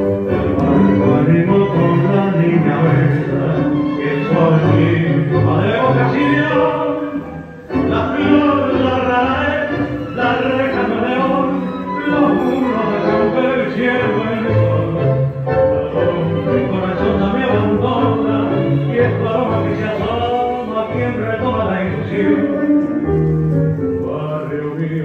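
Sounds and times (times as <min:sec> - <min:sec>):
tango music: 0:00.0 - 0:25.0.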